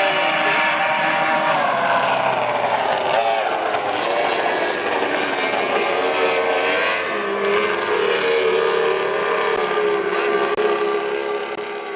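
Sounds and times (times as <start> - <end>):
racing outboard engines droning: 0.0 - 11.9.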